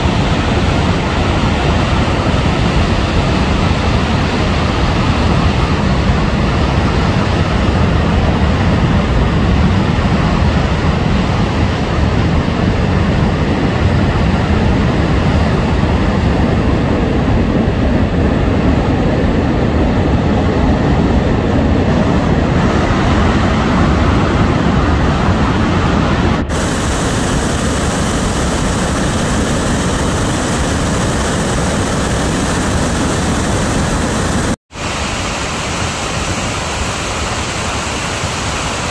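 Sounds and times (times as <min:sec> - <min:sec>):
roar of venting steam: 0:00.0 - 0:35.0.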